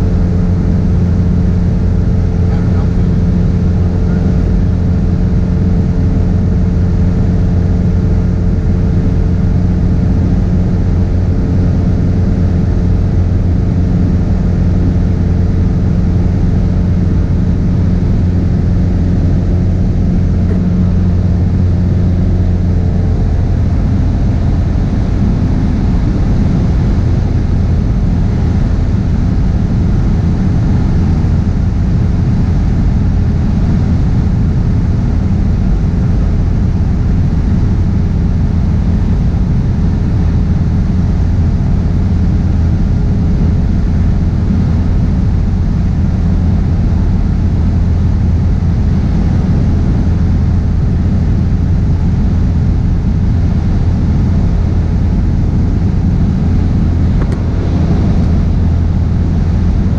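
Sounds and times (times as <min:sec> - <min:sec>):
propeller plane engine drone: 0:00.0 - 0:59.9.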